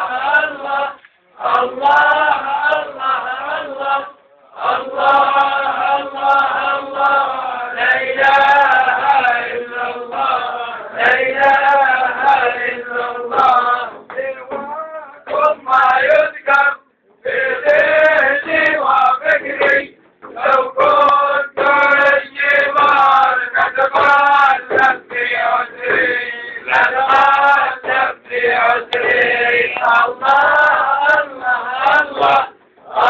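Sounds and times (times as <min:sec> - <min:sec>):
men chanting a devotional song: 0:00.0 - 0:33.0.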